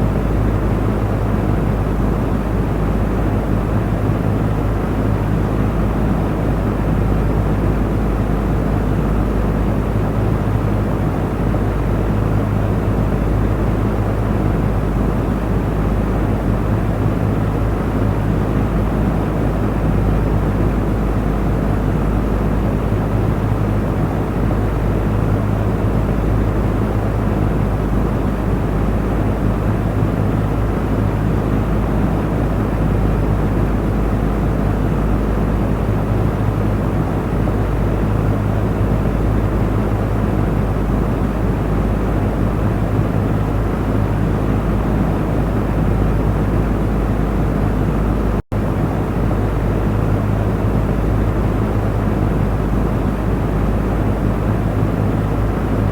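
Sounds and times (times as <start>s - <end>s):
electric fan running: 0.0s - 55.9s.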